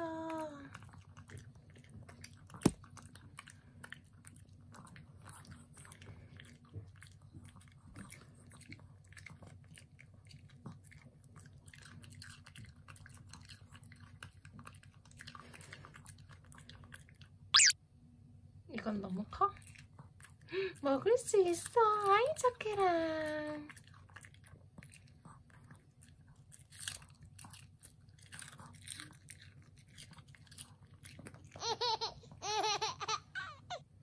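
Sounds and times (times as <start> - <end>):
dog chewing with wet smacking: 0.3 - 17.5, 19.4 - 31.6.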